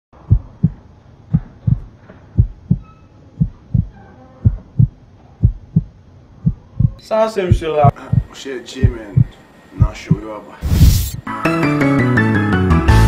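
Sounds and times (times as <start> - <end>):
heartbeat thumps: 0.2 - 11.3.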